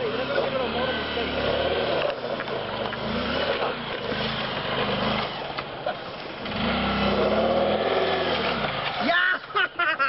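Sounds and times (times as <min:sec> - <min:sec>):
motorcycle engine revving: 0:00.0 - 0:09.1.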